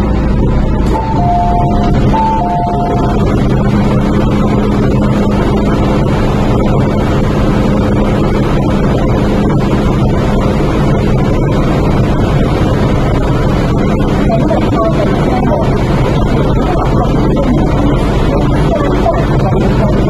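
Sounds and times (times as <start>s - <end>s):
train equipment humming: 0.0s - 20.0s.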